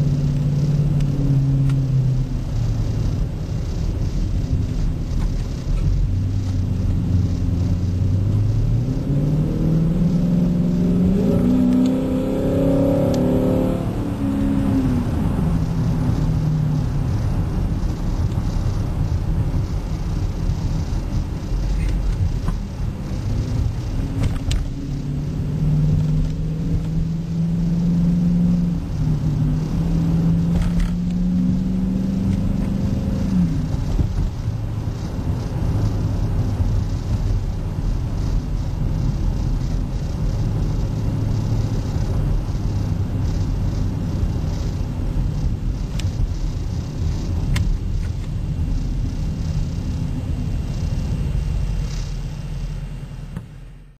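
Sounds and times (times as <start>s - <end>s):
car exhaust rumble: 0.0s - 54.0s
strong steady drone: 0.0s - 54.0s.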